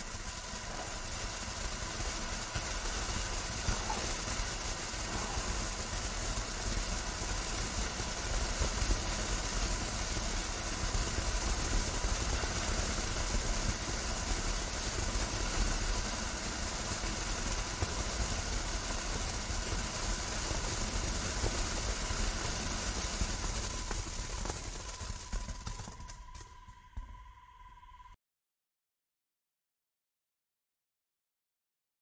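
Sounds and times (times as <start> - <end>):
firework crackling: 0.0 - 27.1
firework fountain hissing: 0.0 - 27.1.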